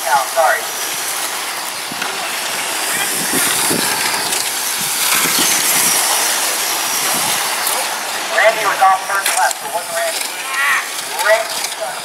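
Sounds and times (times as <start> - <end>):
electric toy trucks whining: 0.0 - 12.0.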